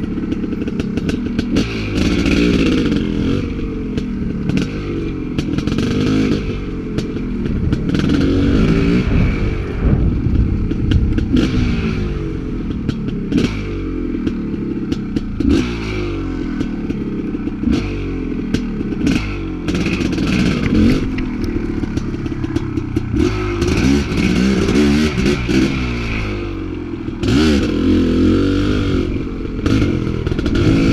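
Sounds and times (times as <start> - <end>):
bike knocking and clattering: 0.0 - 9.0, 9.7 - 28.7, 29.4 - 30.9
dirt bike engine revving: 0.0 - 30.9.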